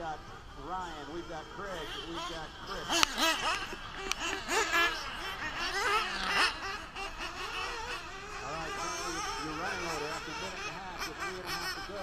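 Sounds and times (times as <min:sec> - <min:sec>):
small engines revving: 0:00.0 - 0:12.0.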